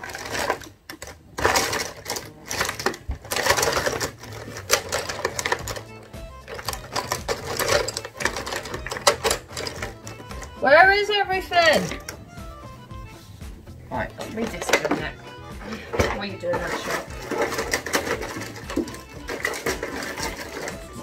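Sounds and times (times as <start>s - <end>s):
markers rattling in plastic tub: 0.0s - 12.2s, 14.0s - 15.2s, 15.9s - 21.0s
quiet background music: 0.0s - 21.0s.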